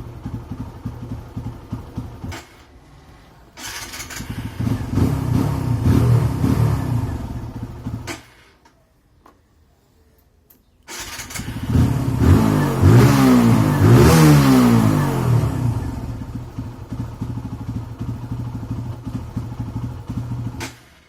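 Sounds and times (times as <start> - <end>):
motorcycle engine revving and idling: 0.0 - 8.5, 10.9 - 21.0.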